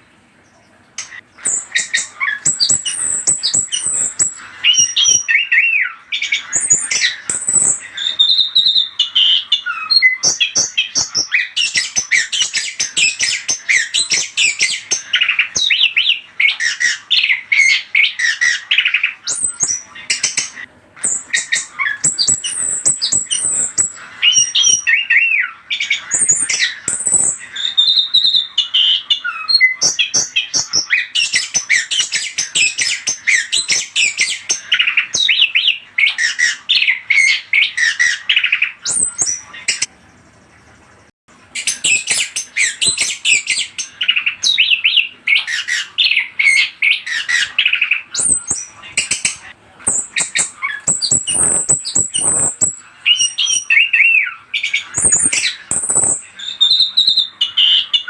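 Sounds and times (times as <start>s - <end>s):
thrush singing whistled song: 1.0s - 58.0s.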